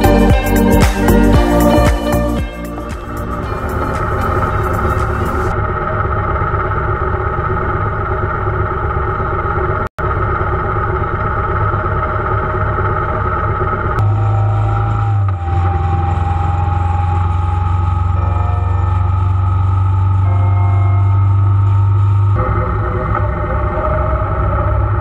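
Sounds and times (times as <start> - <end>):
motorcycle engine cruising: 0.0 - 25.0
motorcycle engines idling: 0.0 - 25.0.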